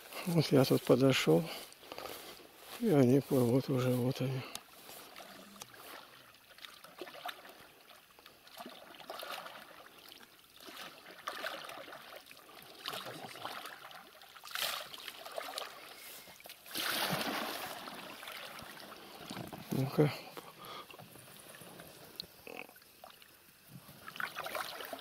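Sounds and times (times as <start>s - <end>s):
oars dipping and splashing: 0.0s - 25.0s.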